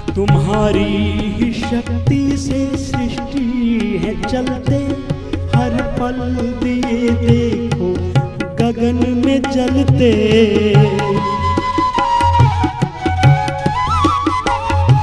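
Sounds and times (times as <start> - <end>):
tabla strokes: 0.0 - 15.0.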